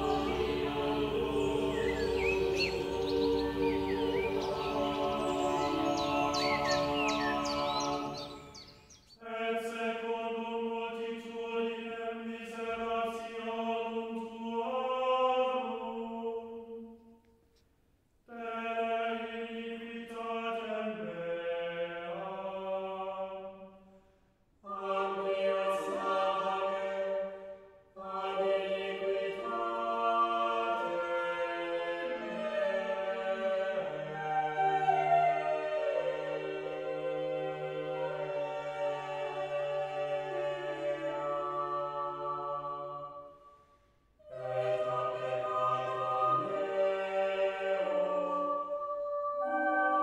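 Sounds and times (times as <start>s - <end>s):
choir singing slow chant: 0.0s - 17.2s, 18.3s - 50.0s.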